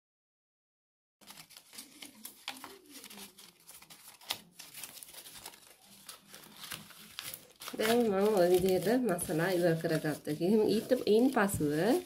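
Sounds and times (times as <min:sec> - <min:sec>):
paper rustling and crinkling: 0:01.2 - 0:12.0.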